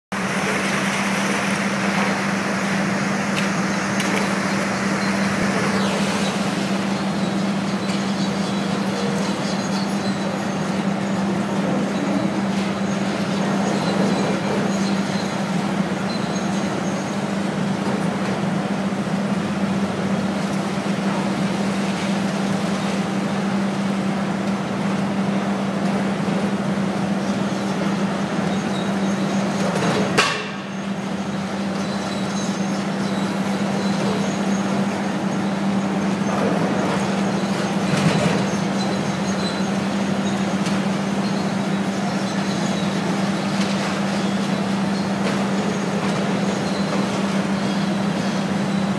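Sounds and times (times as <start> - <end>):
excavator running: 0.1 - 48.9.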